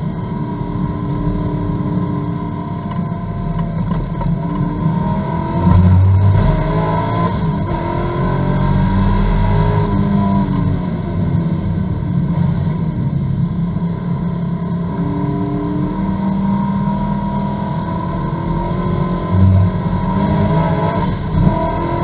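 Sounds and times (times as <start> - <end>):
race car engine accelerating: 3.7 - 22.0.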